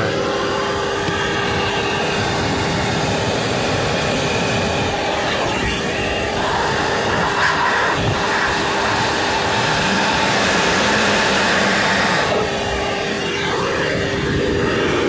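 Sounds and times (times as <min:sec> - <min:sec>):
shop vac blowing air: 0:00.0 - 0:15.0.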